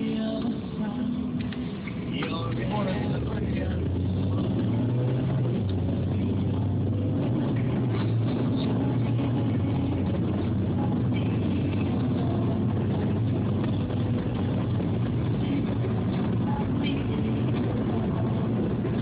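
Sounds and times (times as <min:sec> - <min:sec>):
car cabin engine and road noise: 0:00.0 - 0:19.0.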